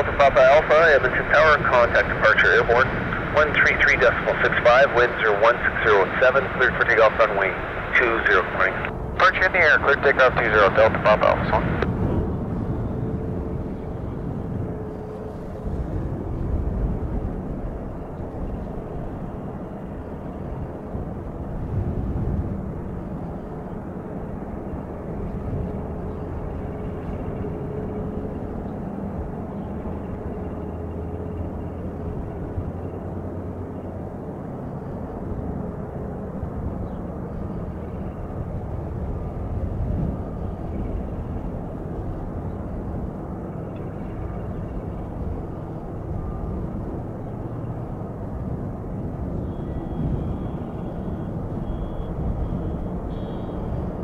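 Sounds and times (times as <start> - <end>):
distant jet engines rumbling: 0.0 - 54.0
faint high jet whine: 0.0 - 54.0.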